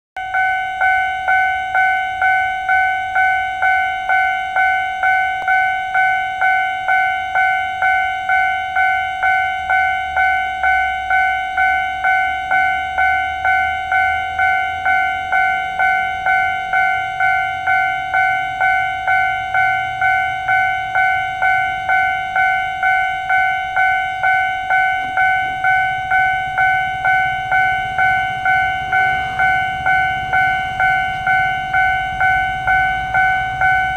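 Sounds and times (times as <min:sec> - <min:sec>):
level-crossing warning bell ringing: 0:00.2 - 0:33.9.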